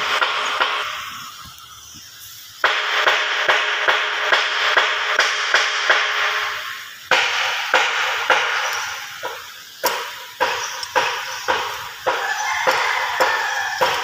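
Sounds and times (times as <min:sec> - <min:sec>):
metal-on-metal tapping: 0:02.6 - 0:14.0.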